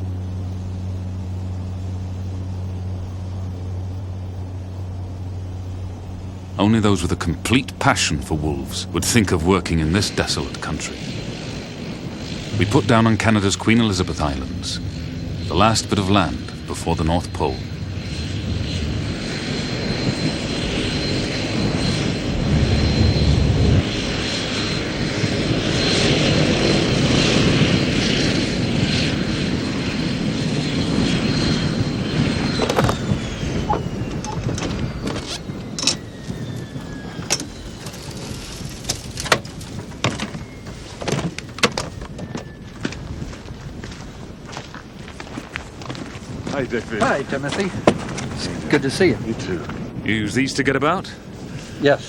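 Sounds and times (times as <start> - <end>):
aircraft engine whine: 0.0 - 52.0.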